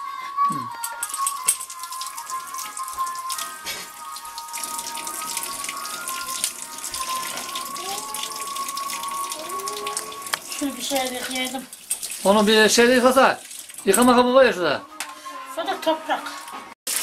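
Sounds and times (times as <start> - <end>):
tap water running: 1.0 - 14.6, 16.1 - 17.0.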